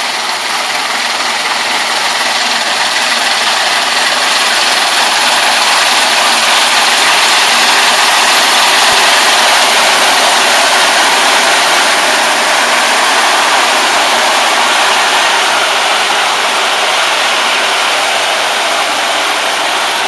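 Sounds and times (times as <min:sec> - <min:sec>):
harvester engine and machinery din: 0:00.0 - 0:20.0.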